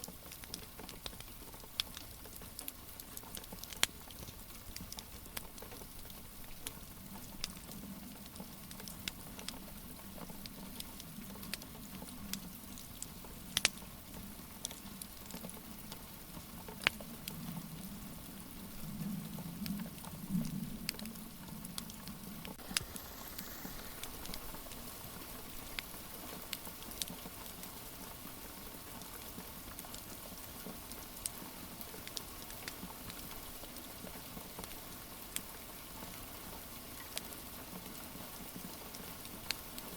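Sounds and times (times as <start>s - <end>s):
wood fire crackling and popping: 0.0s - 35.5s
rain hiss: 0.0s - 39.9s.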